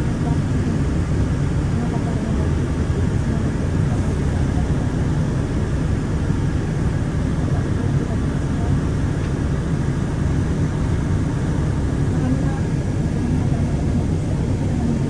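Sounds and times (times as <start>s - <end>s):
bus engine and tyres rumbling: 0.0s - 15.0s.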